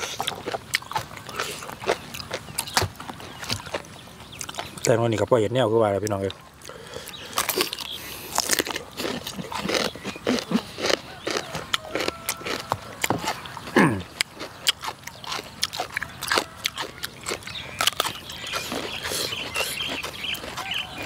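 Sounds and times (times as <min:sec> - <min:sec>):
crunching and chewing cucumber: 0:00.0 - 0:05.4, 0:06.2 - 0:21.0.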